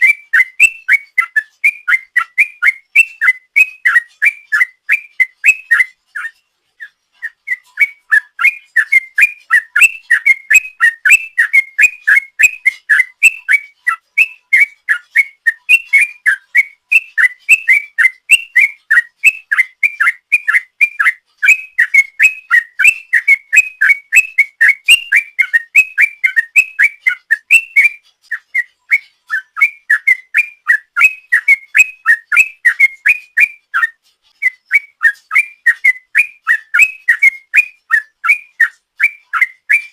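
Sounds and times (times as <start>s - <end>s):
bird singing fast whistled notes: 0.0s - 39.9s.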